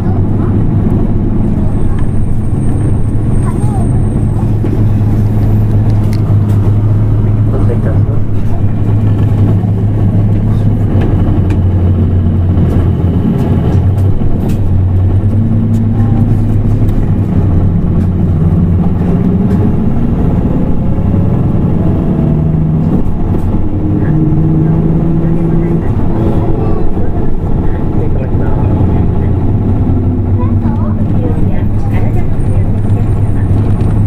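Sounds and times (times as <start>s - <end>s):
bus diesel engine droning: 0.0s - 34.0s.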